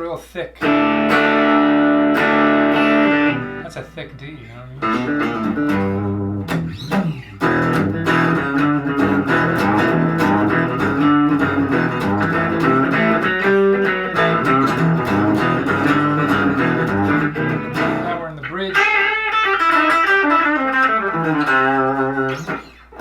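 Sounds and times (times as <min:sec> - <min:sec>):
electric guitar chords and notes: 0:00.6 - 0:03.8, 0:04.7 - 0:23.0.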